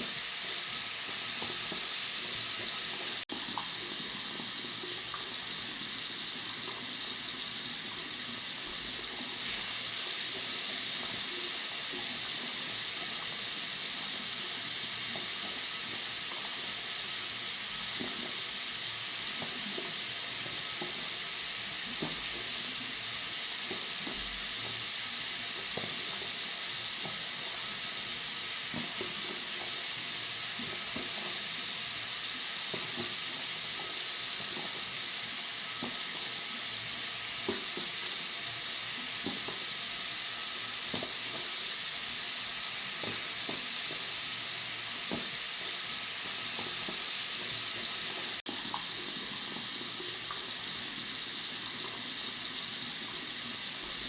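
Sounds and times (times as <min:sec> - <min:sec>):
water running from sink tap: 0:00.0 - 0:54.0.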